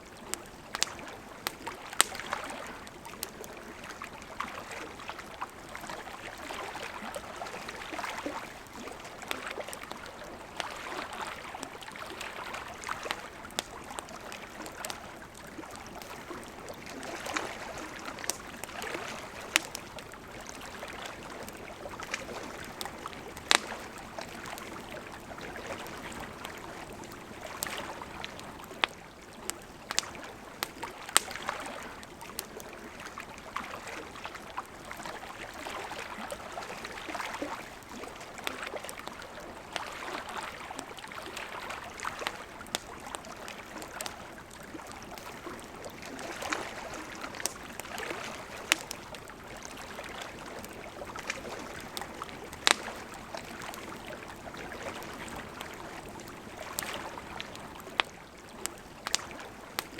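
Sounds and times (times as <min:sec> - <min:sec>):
lake waves lapping at shore: 0:00.0 - 0:59.9
campfire crackling and popping: 0:00.1 - 0:59.9.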